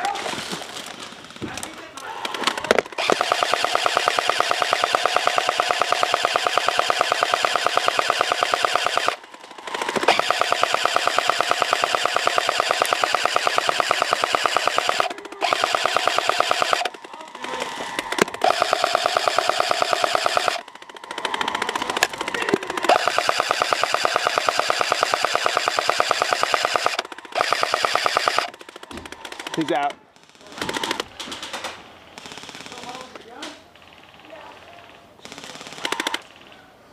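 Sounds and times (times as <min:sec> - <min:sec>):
airsoft gun full-auto bursts: 0:02.2 - 0:36.5.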